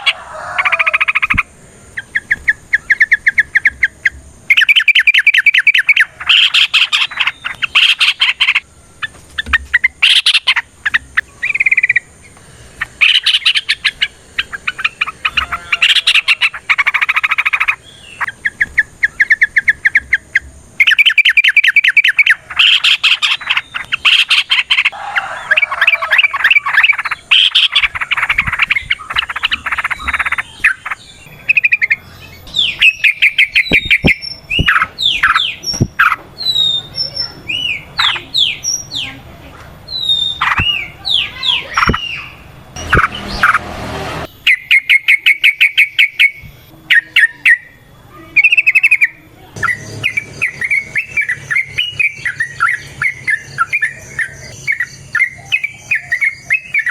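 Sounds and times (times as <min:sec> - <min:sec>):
bulbul chattering calls: 0:00.0 - 0:39.2, 0:39.9 - 0:43.6, 0:44.3 - 0:56.9.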